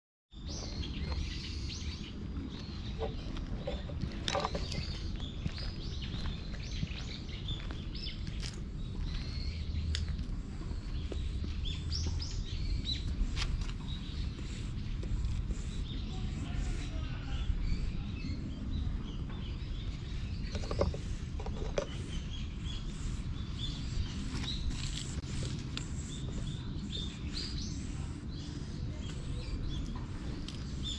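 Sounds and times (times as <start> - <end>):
small birds chirping: 0.3 - 30.9
steady low rumble: 0.4 - 30.9.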